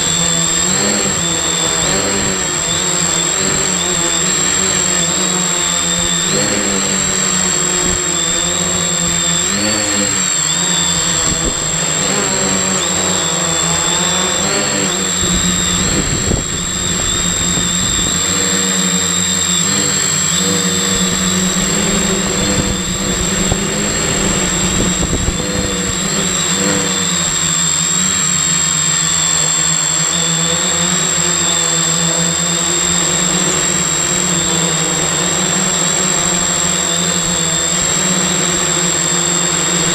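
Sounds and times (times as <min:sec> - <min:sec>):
drone motors buzzing: 0:00.0 - 0:39.9
thin high whine: 0:00.0 - 0:39.9.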